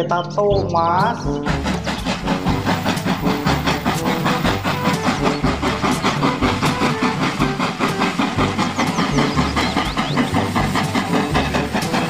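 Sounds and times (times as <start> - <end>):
steam locomotive chuffing: 0.6 - 12.0
steam hiss: 1.5 - 12.0.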